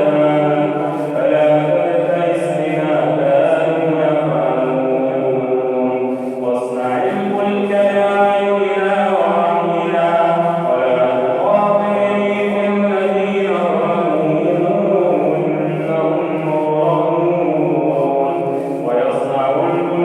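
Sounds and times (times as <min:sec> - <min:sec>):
man chanting melodically: 0:00.0 - 0:20.0.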